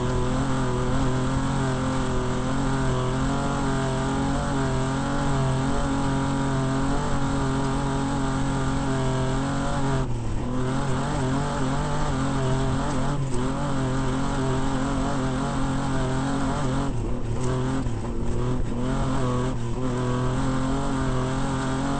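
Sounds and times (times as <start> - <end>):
off-road vehicle engine running hard: 0.0 - 21.9.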